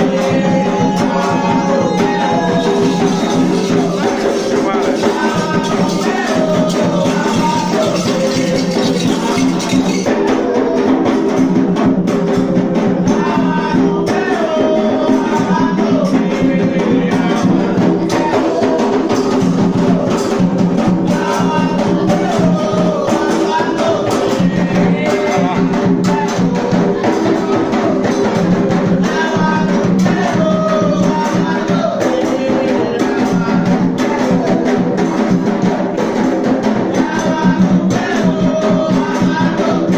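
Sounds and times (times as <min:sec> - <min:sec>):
hand drums and shakers: 0:00.0 - 0:39.9
person singing a devotional chant: 0:00.0 - 0:39.9.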